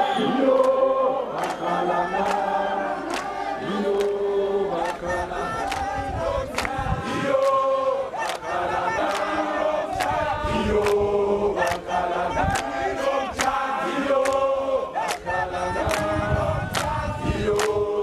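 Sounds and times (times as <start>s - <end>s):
crowd singing: 0.0s - 18.0s.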